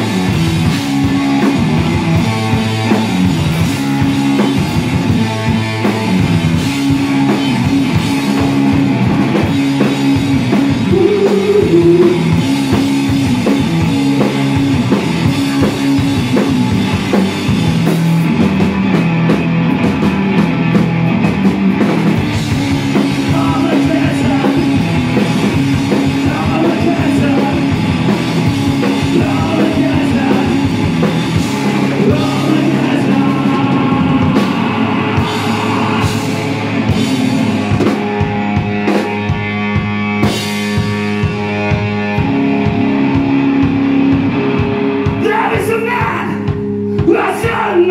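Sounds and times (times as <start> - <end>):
electric guitar chords: 0.0 - 45.3
drum kit: 0.0 - 47.5.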